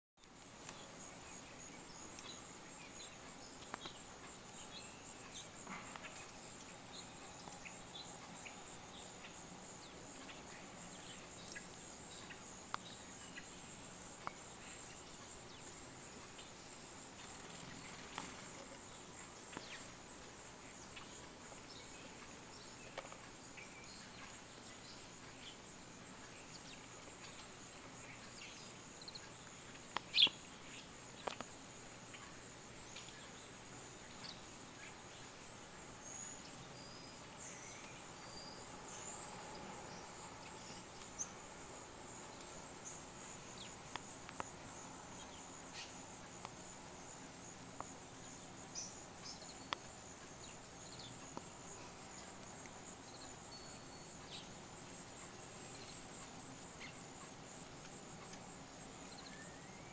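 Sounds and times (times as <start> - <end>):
insects chirring: 0.2 - 59.9.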